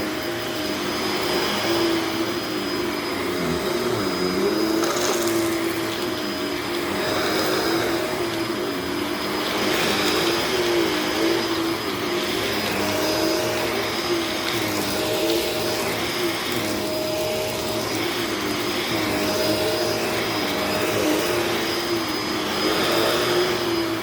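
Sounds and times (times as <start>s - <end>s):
faint high whine: 0.0s - 24.0s
vacuum cleaner on carpet: 0.0s - 24.0s.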